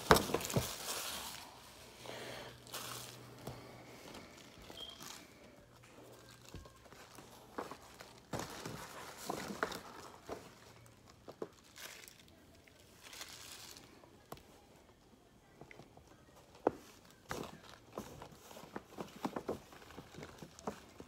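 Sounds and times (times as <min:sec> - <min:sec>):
packing material crinkling: 0:00.0 - 0:01.9, 0:02.5 - 0:14.4, 0:16.8 - 0:21.0.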